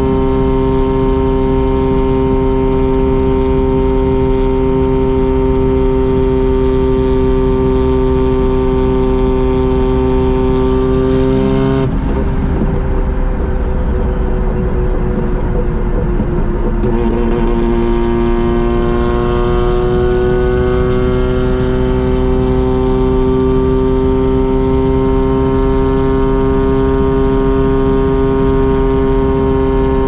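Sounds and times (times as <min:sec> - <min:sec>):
rotary engine and exhaust cruising: 0:00.0 - 0:30.0.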